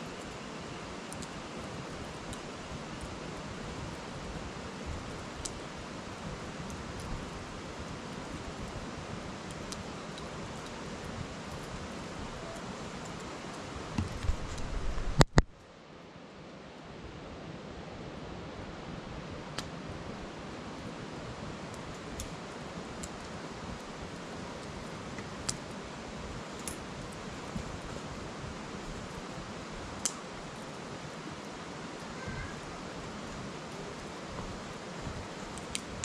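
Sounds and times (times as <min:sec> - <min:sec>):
wood fire crackling and popping: 0:00.0 - 0:15.7, 0:18.7 - 0:36.0
river rushing: 0:00.0 - 0:36.0.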